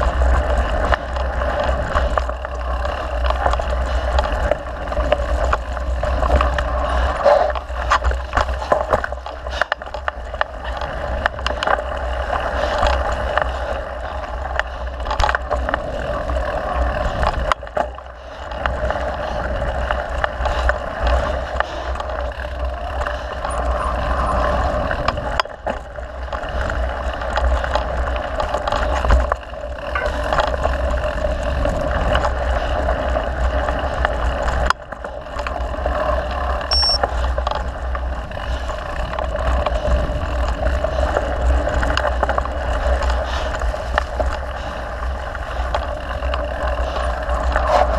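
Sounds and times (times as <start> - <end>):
bike clicks and rattles: 0.0 - 47.9
bike tyre noise: 0.0 - 47.9
wind rumble: 0.0 - 47.9.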